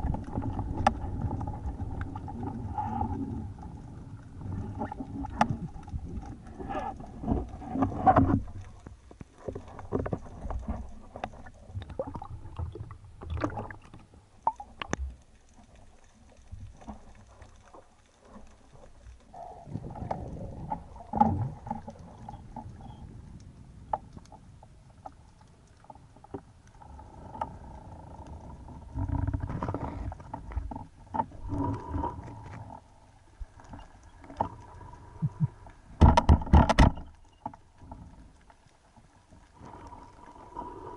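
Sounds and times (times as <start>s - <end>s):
muffled underwater water rumbling: 0.0s - 40.9s.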